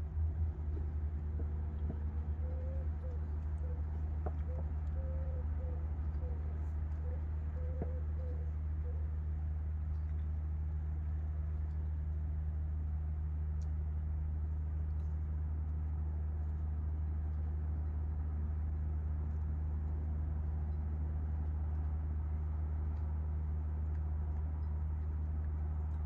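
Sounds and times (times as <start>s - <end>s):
low engine hum: 0.0s - 26.0s
faint light ticks: 0.7s - 26.0s.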